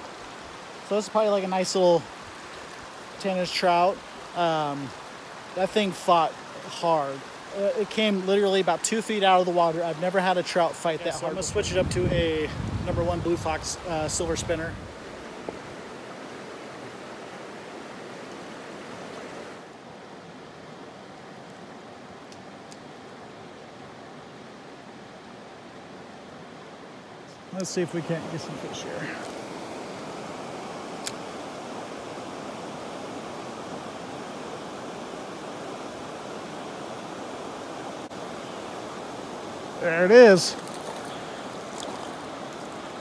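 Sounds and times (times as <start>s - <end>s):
creek water rushing over rocks: 0.0s - 43.0s.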